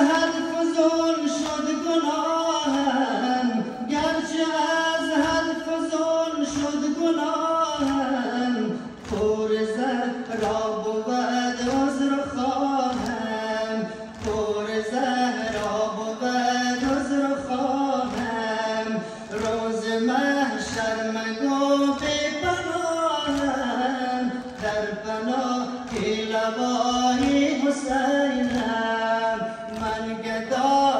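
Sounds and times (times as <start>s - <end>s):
voices chanting a lament: 0.0s - 30.9s.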